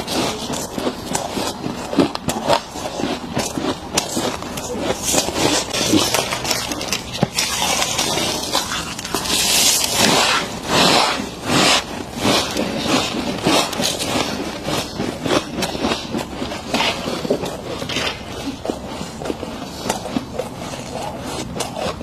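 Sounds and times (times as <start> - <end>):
frost crunching and scraping: 0.0 - 22.0.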